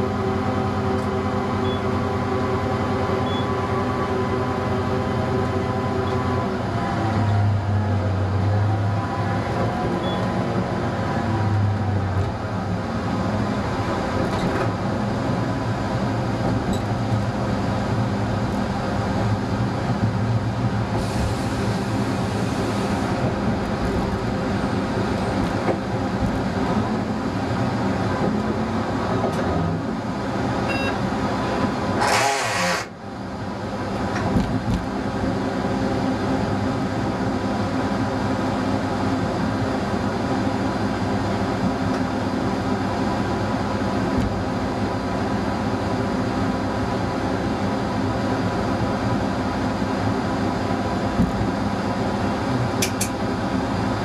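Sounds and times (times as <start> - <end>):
diesel railcar engine running: 0.0 - 54.0.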